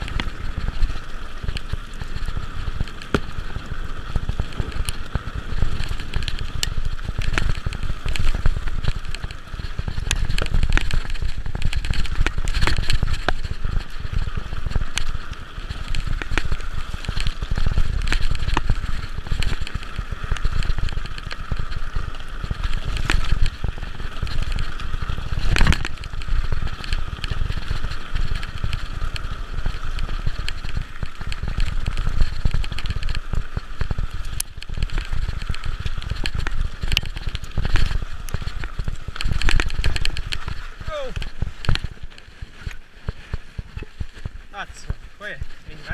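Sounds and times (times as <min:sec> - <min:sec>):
bike clattering over bumps: 0:00.0 - 0:45.7
wind rumbling on microphone: 0:00.0 - 0:45.9.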